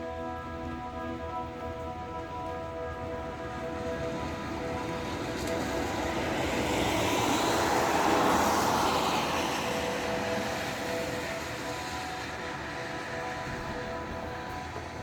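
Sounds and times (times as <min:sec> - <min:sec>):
droning horn-like tones: 0:00.0 - 0:15.0.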